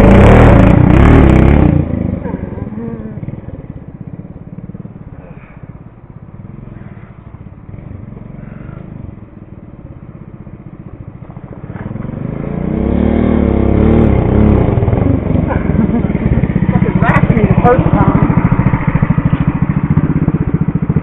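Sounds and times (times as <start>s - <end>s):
mini bike engine running: 0.0s - 21.0s.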